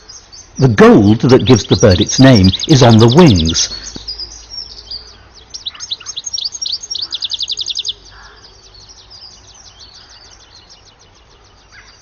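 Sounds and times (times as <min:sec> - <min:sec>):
finch singing: 0:00.0 - 0:12.0.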